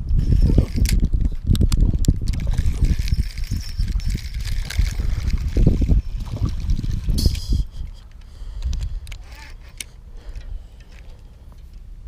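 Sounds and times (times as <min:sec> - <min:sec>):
wind rumble on microphone: 0:00.0 - 0:09.7
water lapping and trickling: 0:00.2 - 0:11.8.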